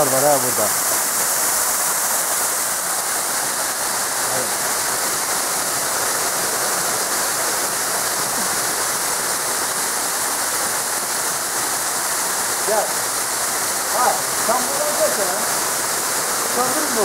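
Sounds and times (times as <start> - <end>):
waterfall rushing onto rock: 0.0 - 17.0.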